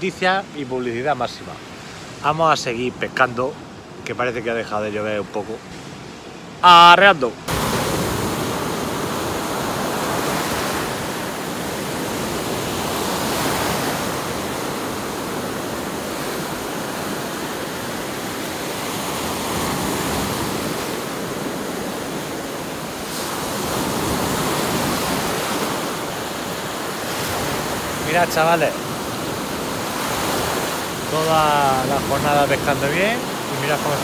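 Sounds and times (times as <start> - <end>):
surf breaking on beach: 6.6 - 34.0.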